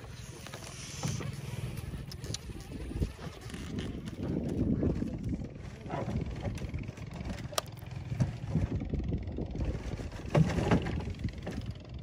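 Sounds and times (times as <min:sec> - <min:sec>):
boat moving through water: 0:00.0 - 0:12.0
wind rumbling on microphone: 0:00.9 - 0:12.0.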